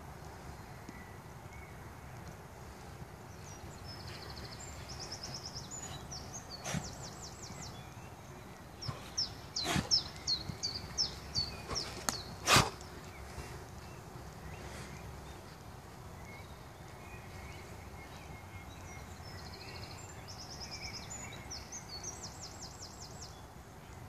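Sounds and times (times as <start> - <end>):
songbirds calling and singing: 0.0 - 24.0.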